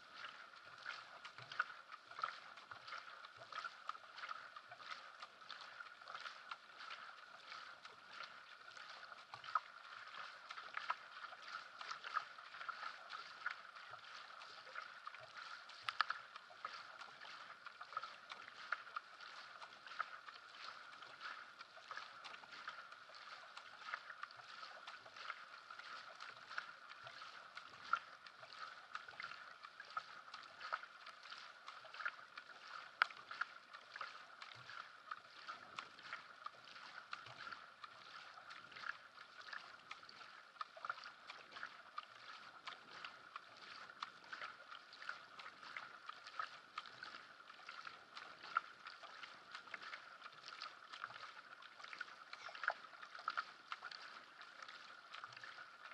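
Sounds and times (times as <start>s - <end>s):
paddle splashing in water: 0.0s - 55.9s
water rushing along hull: 0.0s - 55.9s.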